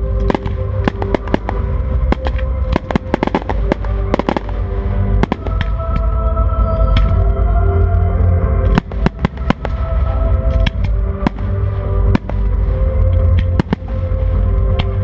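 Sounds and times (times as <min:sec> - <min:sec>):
fireworks bangs and crackling: 0:00.0 - 0:06.2, 0:08.6 - 0:15.0
low rumble: 0:00.0 - 0:15.0
musical soundtrack: 0:00.0 - 0:15.0.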